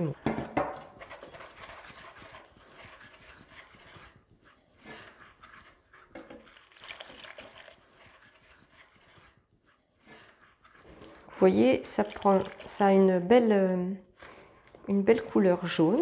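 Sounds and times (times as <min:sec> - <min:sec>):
wooden spoon scraping metal bowl: 0:00.0 - 0:16.0.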